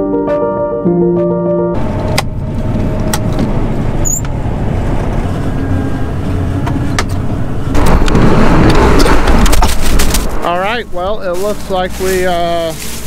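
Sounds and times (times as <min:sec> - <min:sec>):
combine harvester running: 0:01.1 - 0:13.0.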